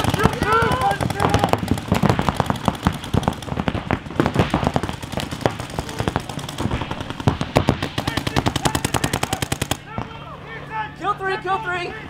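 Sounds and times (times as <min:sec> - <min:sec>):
paintball markers firing: 0:00.0 - 0:09.8.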